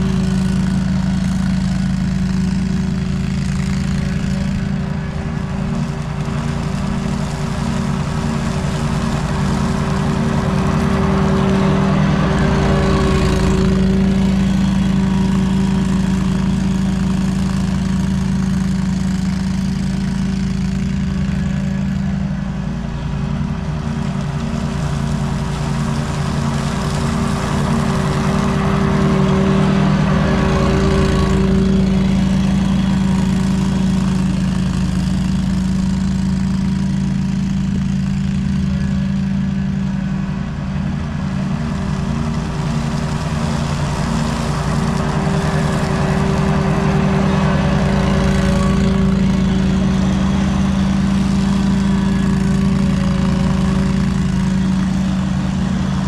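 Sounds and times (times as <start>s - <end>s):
riding mower engine running: 0.0s - 56.0s.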